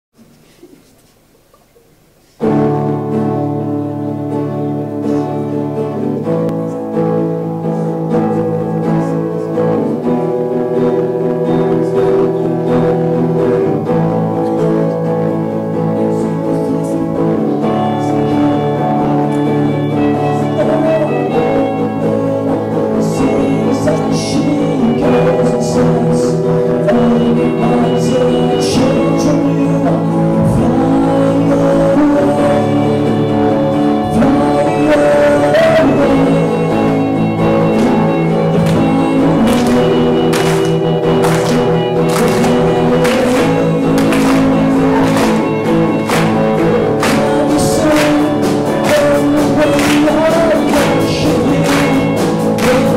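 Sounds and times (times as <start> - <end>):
amplified guitar strumming chords: 2.4 - 52.9.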